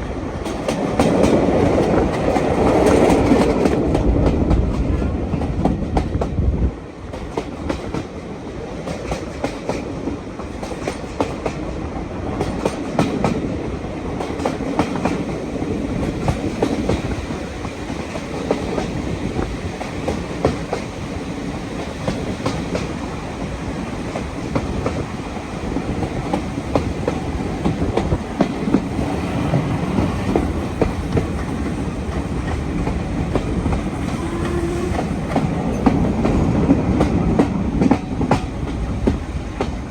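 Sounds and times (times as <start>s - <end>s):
rail joint clicks: 0.0s - 6.4s, 7.0s - 39.9s
train wheels rumbling on rails: 0.0s - 39.9s.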